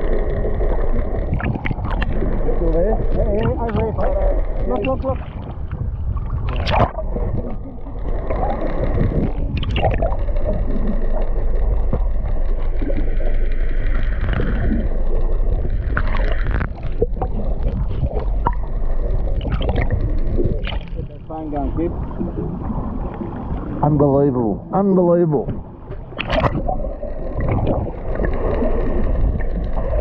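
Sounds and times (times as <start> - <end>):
wind and water against hull: 0.0 - 30.0.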